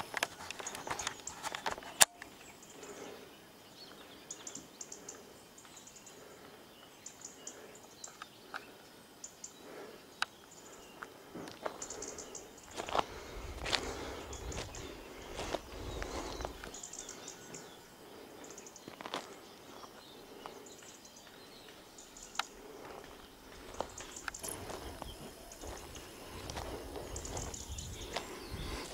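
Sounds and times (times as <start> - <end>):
rural outdoor ambience: 0.0 - 28.9.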